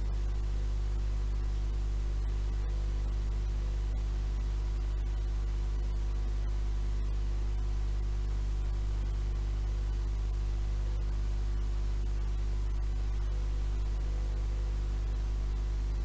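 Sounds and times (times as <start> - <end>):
low mains hum: 0.0 - 16.0
tape hiss: 0.0 - 16.0.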